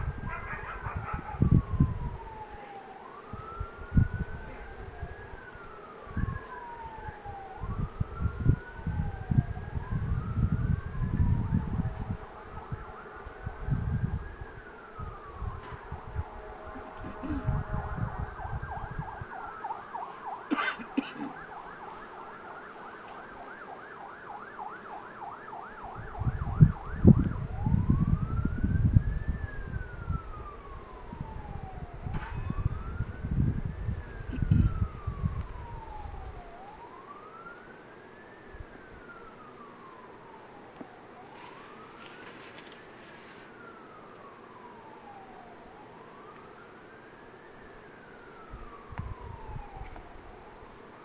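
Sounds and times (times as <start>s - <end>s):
emergency vehicle siren: 0.0s - 51.0s.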